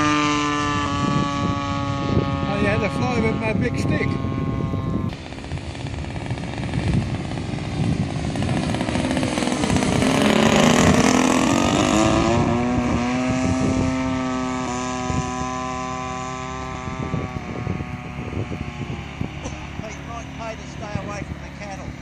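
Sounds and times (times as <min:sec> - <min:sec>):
model plane engine and propeller: 0:00.0 - 0:22.0.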